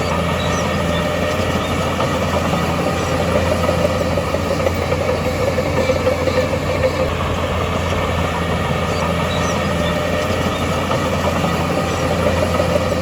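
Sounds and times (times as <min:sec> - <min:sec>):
diesel machinery engine humming: 0:00.0 - 0:13.0.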